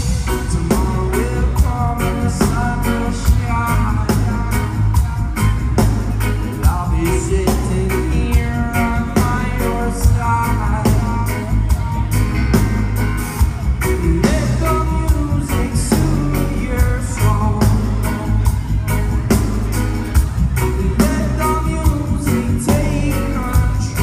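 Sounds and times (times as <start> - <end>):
person singing: 0.0 - 12.7, 13.4 - 24.0
heavy bass: 0.0 - 24.0
reggae band playing live: 0.0 - 24.0
steady drum beat: 0.0 - 24.0.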